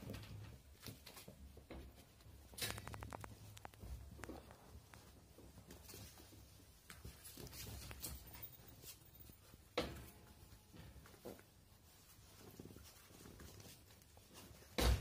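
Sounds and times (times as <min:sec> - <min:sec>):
puppies pattering and scuffling: 0:00.0 - 0:15.0.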